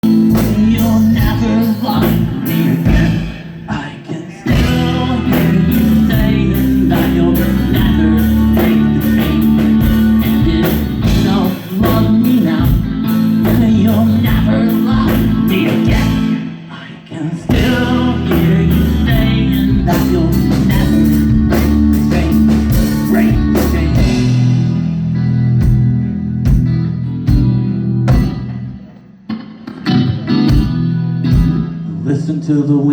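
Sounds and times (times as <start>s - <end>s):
rock band playing: 0.0s - 32.0s.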